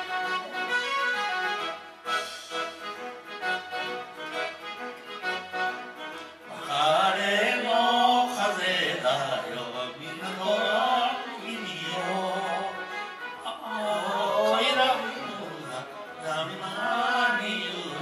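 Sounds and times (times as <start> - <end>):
instrumental backing music: 0.0 - 18.0.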